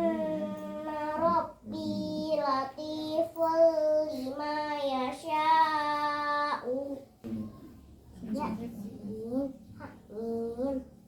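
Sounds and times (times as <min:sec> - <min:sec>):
child chanting recitation: 0:00.0 - 0:11.0.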